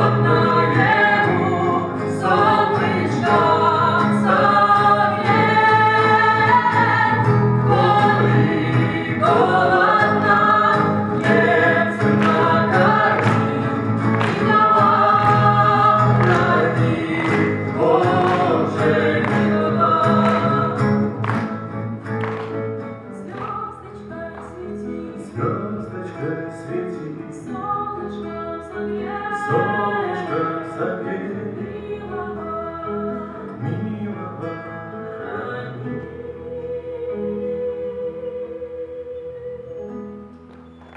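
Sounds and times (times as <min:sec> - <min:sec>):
voices singing: 0:00.0 - 0:21.8, 0:23.1 - 0:40.9
guitars playing: 0:00.0 - 0:40.9.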